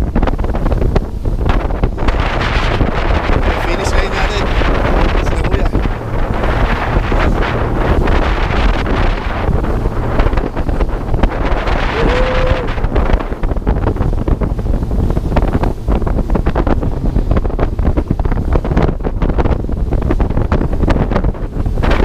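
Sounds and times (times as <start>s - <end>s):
water noise: 0.0s - 22.0s
wind buffeting microphone: 0.0s - 22.0s.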